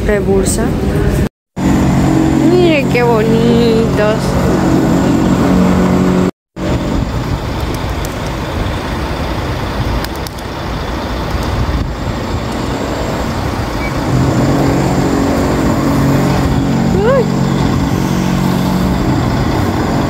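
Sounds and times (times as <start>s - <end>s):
moving vehicle rumble: 0.0s - 20.0s.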